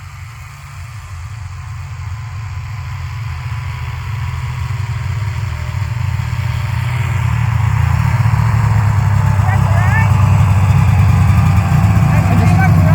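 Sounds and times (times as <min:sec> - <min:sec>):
snowmobile engine running: 0:00.0 - 0:12.9.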